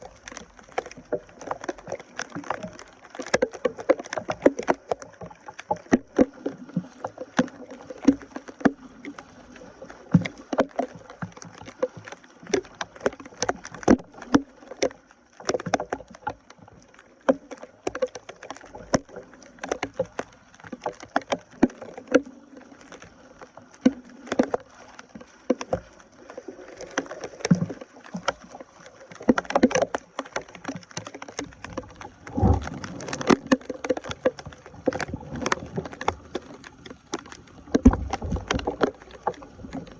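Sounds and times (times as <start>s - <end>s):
water splashing: 0.0s - 39.9s.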